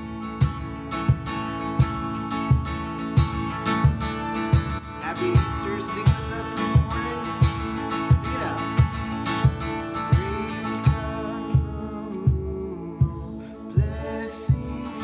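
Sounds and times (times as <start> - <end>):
steady low beat: 0.0 - 15.0
strummed acoustic guitar: 0.0 - 15.0.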